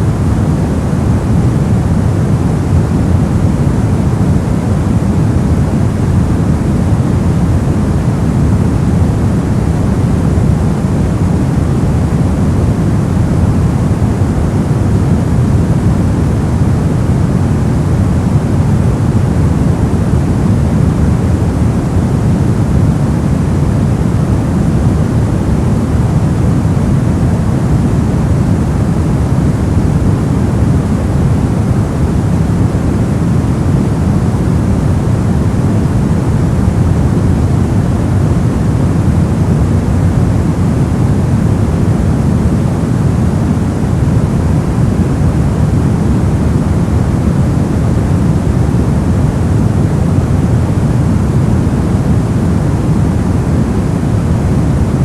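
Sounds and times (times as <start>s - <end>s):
deep white noise: 0.0s - 55.0s.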